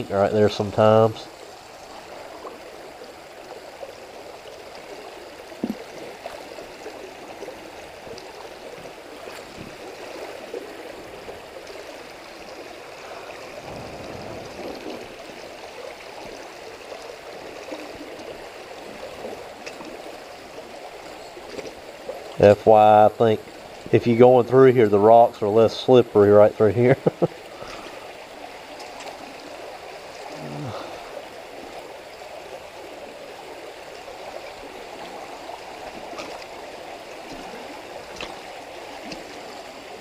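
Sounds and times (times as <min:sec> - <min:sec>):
creek running over stones: 0:00.0 - 0:40.0.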